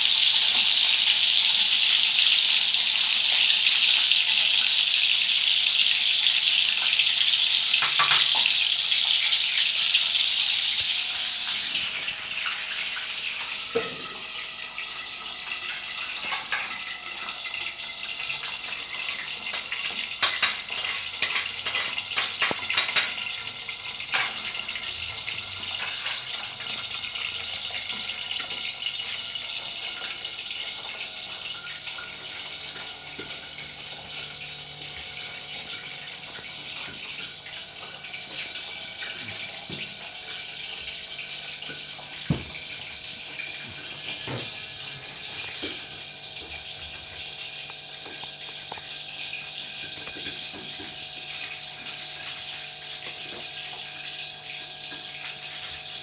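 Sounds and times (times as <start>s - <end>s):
spices sizzling in oil: 0.0s - 56.0s.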